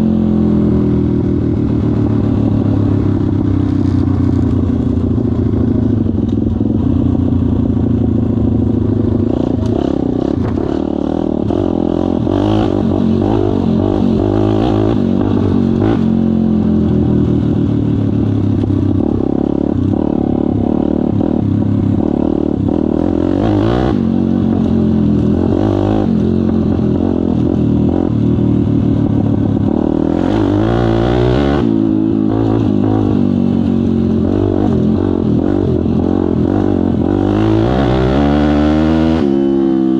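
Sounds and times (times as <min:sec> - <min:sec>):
pit bike engine revving: 0:05.0 - 0:39.9.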